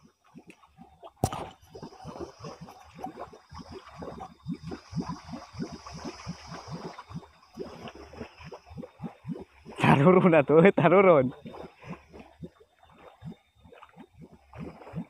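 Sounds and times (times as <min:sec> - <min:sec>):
muddy water plopping and gurgling: 0:00.0 - 0:15.0.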